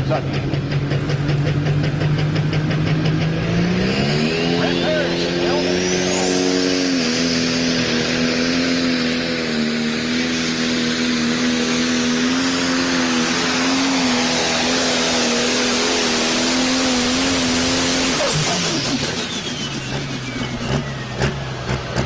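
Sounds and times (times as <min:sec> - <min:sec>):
tractor engine running hard: 0:00.0 - 0:22.0.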